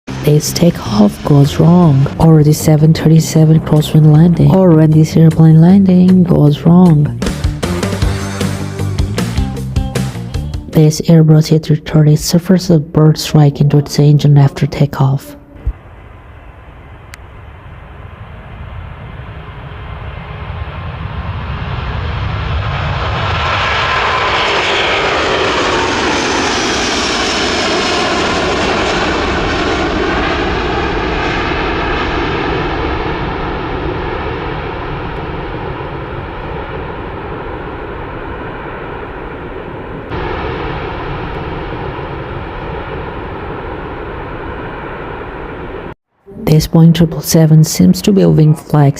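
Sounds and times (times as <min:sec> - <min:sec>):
jet airliner passing by: 0:00.1 - 0:09.3, 0:10.7 - 0:46.0.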